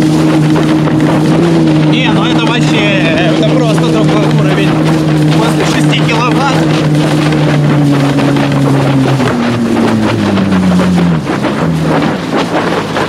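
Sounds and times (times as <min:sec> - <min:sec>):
water rushing and spraying: 0:00.0 - 0:13.0
wind on microphone: 0:00.0 - 0:13.0.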